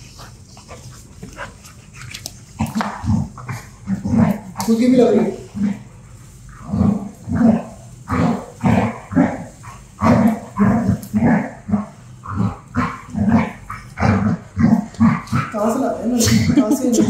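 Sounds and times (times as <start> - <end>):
dog barking and growling: 2.6 - 5.9, 6.5 - 17.0.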